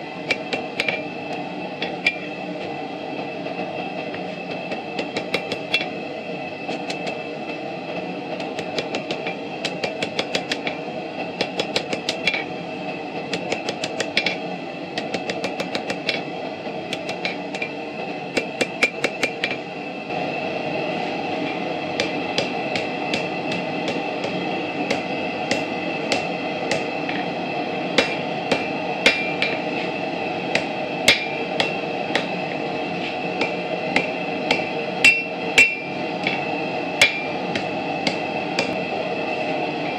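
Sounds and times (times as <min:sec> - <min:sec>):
steady rushing background noise: 0:00.0 - 0:39.9
hammer striking hot metal on anvil: 0:00.2 - 0:02.4, 0:04.1 - 0:06.0, 0:06.7 - 0:07.3, 0:08.4 - 0:12.6, 0:13.2 - 0:16.3, 0:16.9 - 0:19.7, 0:21.4 - 0:38.9.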